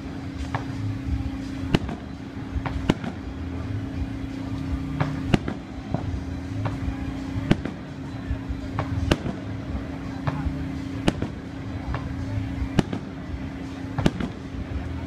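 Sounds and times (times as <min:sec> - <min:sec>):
faint fireworks pops: 0:00.0 - 0:15.0
fireworks bangs: 0:00.0 - 0:15.0.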